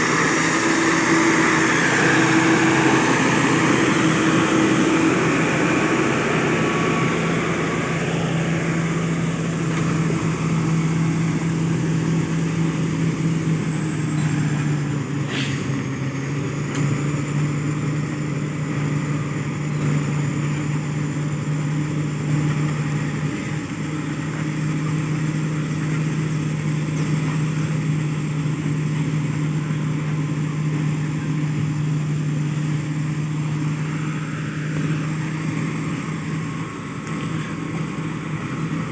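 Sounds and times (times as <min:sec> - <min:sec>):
diesel engine running: 0:00.0 - 0:38.9
steady high whine: 0:00.0 - 0:38.9.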